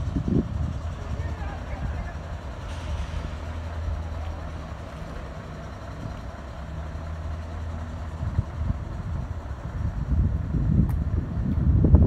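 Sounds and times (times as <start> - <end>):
road traffic: 0.0 - 12.0
vehicle engine humming: 0.0 - 12.0.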